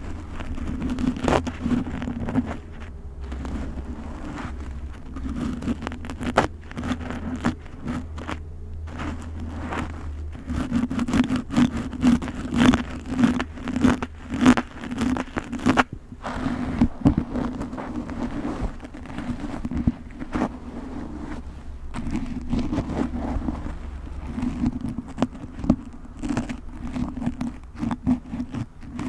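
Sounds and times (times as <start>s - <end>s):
plastic wrappers crinkling: 0.0s - 29.0s.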